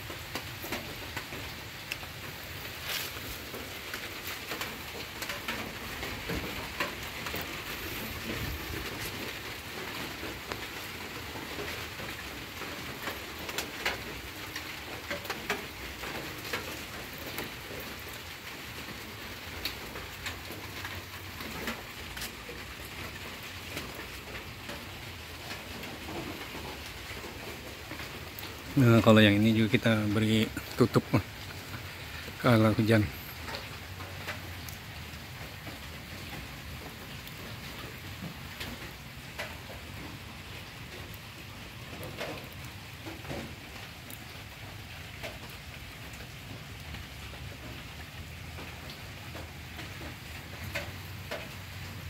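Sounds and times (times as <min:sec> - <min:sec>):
rain falling onto water: 0:00.0 - 0:52.0.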